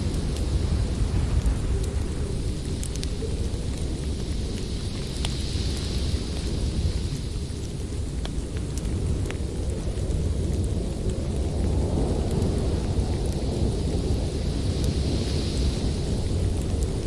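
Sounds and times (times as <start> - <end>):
storm wind rushing: 0.0 - 17.0
wood fire crackling: 0.0 - 17.0.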